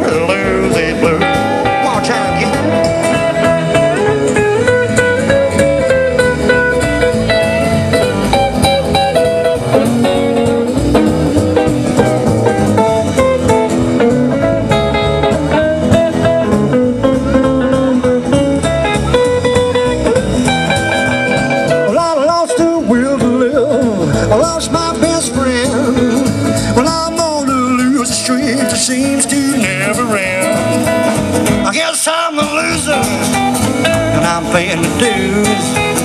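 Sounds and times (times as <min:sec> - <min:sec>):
electric guitar lead: 0:00.0 - 0:36.0
rockabilly band playing: 0:00.0 - 0:36.0.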